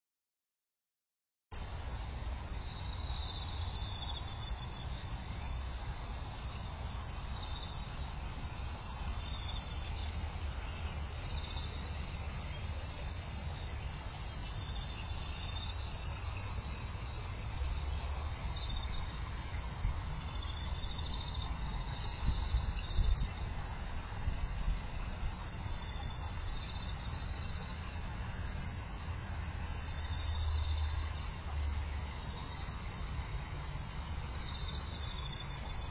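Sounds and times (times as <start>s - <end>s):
insects trilling: 1.6s - 35.9s
lower insect trill: 1.6s - 35.9s.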